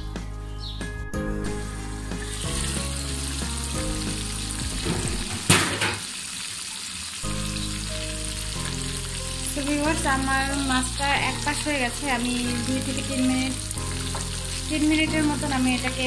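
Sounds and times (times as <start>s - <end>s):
fish sizzling in oil: 2.0s - 16.0s.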